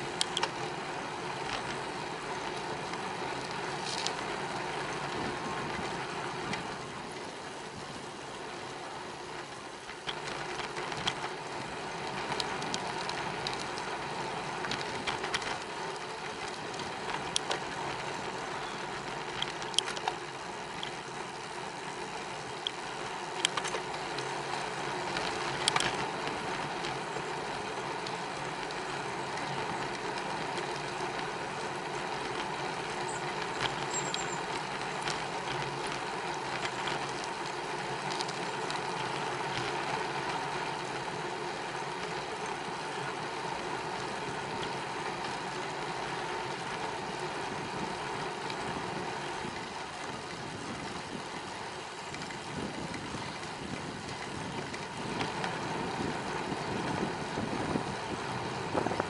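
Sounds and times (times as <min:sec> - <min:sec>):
bicycle rolling on pavement: 0:00.0 - 0:59.0
bike clicks and rattles: 0:00.0 - 0:59.0.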